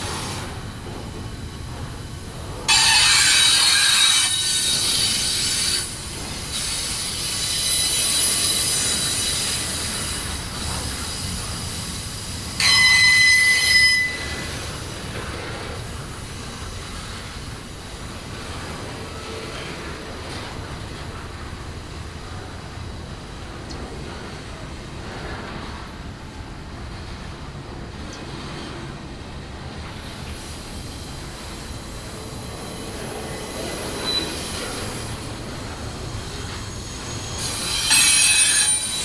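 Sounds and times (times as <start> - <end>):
wheels squealing on rails: 0.0 - 26.1, 27.0 - 39.0
train rolling past: 0.0 - 39.0.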